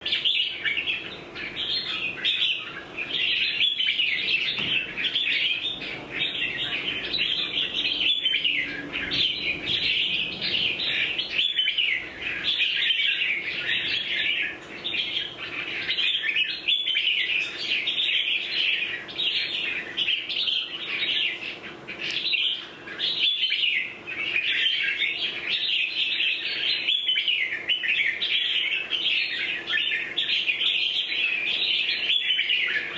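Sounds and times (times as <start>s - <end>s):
bulbul singing and chattering: 0.0s - 32.9s.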